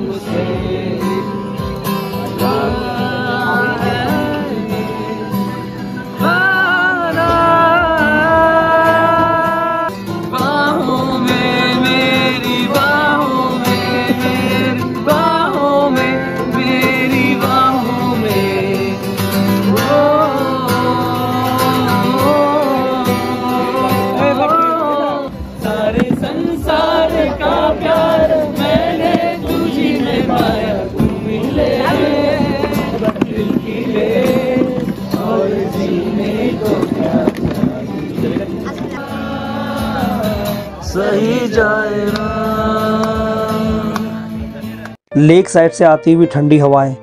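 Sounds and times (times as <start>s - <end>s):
man singing: 0.0s - 44.5s
acoustic guitar strumming: 0.0s - 46.4s.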